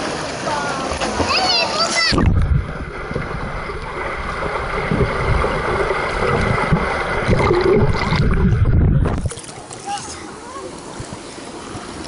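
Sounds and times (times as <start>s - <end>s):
underwater churning rumble: 0.0s - 9.7s.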